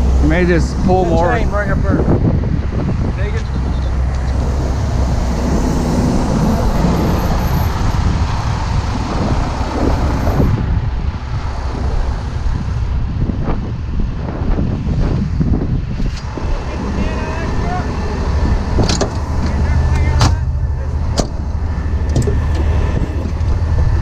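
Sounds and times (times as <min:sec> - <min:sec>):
diesel truck engines idling: 0:00.0 - 0:13.4, 0:15.5 - 0:24.0.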